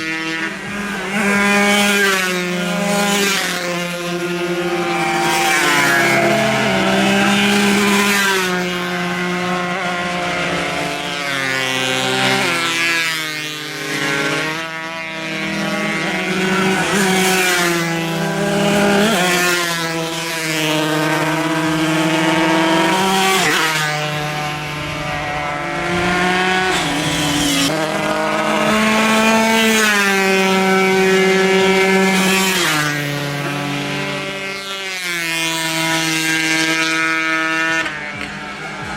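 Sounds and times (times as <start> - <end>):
racing motorcycle engines revving: 0.0 - 38.9.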